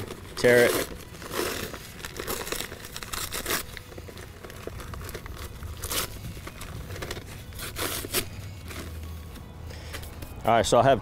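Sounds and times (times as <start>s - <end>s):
paper sack tearing: 0.0s - 10.1s
paper rustling and crinkling: 0.0s - 10.4s.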